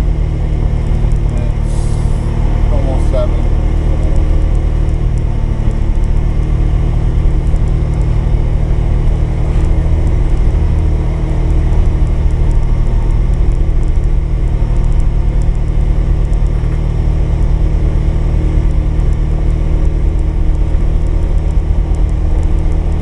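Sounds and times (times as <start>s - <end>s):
utility vehicle engine drone: 0.0s - 23.0s.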